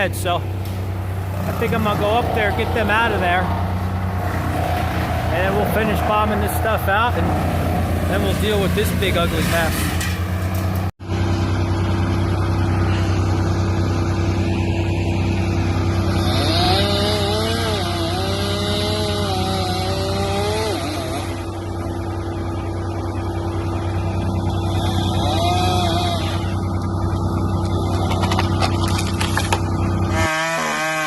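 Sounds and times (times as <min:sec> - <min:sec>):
large engine running: 0:00.0 - 0:31.0.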